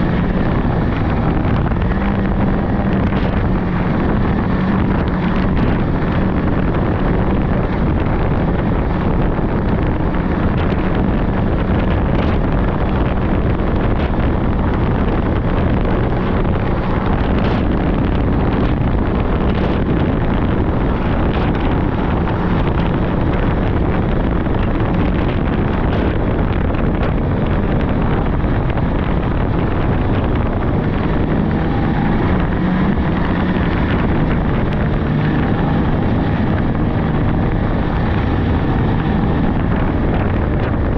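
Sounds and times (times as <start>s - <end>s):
snowmobile engine running: 0.0s - 40.9s
wind rushing over microphone: 0.0s - 40.9s.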